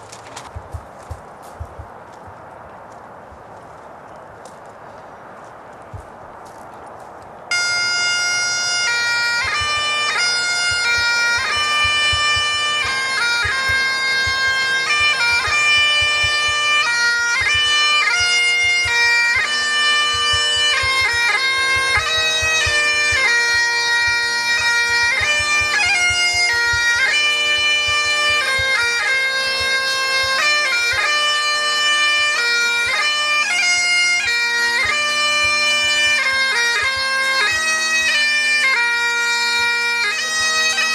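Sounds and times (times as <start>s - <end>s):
bagpipes playing a lively tune: 7.5s - 40.9s.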